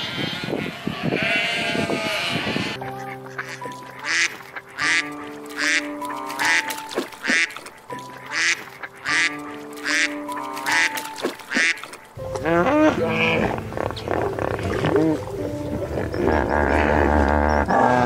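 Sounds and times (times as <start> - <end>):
soft background music: 0.2 - 18.0
duck quacking: 3.0 - 18.0.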